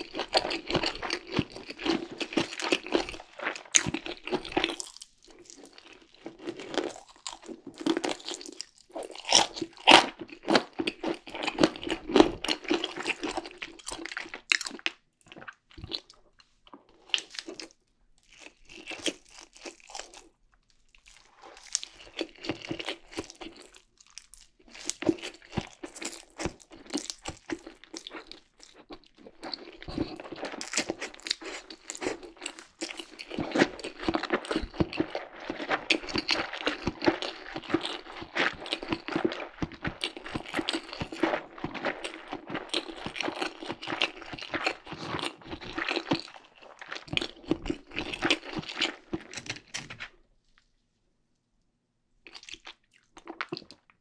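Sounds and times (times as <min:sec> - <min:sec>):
chewing noodles: 0:00.0 - 0:50.2, 0:52.2 - 0:53.9
crunchy bites and chewing: 0:00.0 - 0:50.2, 0:52.2 - 0:53.9.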